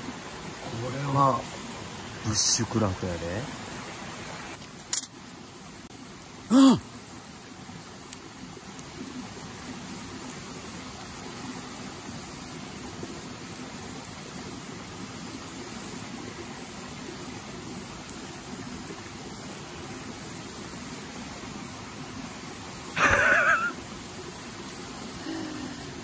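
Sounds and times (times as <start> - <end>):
stream flowing over rocks: 0.0 - 26.0.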